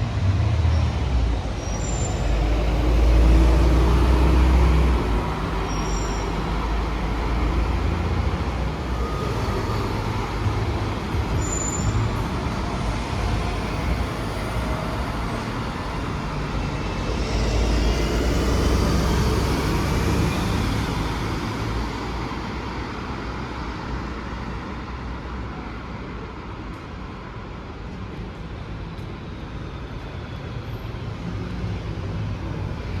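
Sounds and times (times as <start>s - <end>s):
street traffic rumble: 0.0s - 33.0s.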